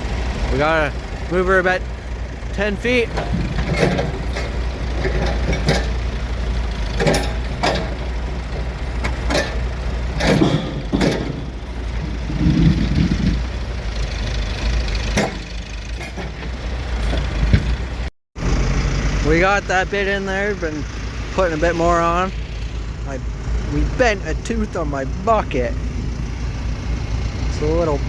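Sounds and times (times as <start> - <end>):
tractor engines running: 0.0 - 28.0.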